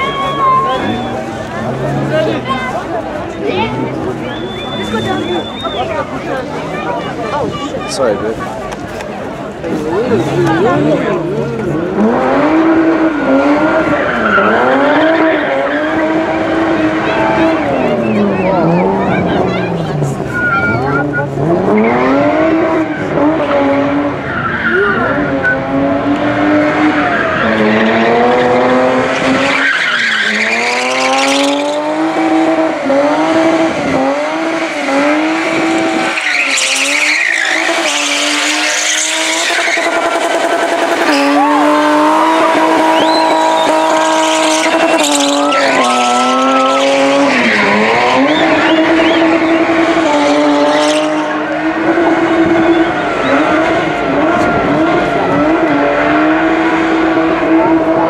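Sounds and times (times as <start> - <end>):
tyres squealing on tarmac: 0.0 - 8.6, 9.7 - 25.8, 26.7 - 51.5
car engine revving high: 9.7 - 58.0.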